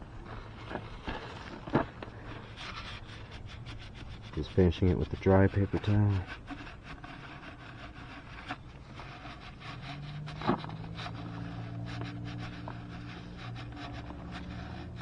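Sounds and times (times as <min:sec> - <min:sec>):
low steady hum: 0:00.0 - 0:15.0
small scrapes and taps: 0:00.2 - 0:15.0
paper towel rubbing on metal: 0:02.2 - 0:15.0.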